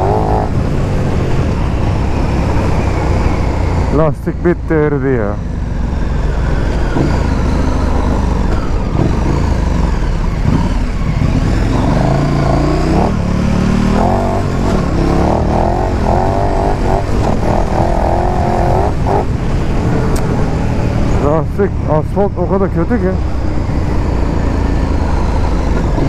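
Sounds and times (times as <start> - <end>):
motorcycle engine under throttle: 0.0 - 26.0
road and wind noise: 0.0 - 26.0.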